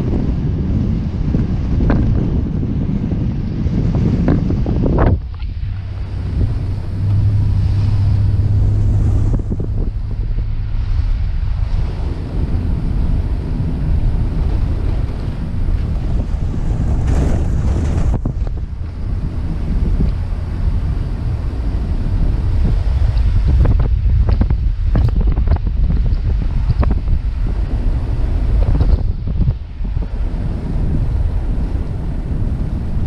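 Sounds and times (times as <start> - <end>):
car engine and tyre rumble: 0.0 - 33.0
wind buffeting microphone: 0.0 - 33.0.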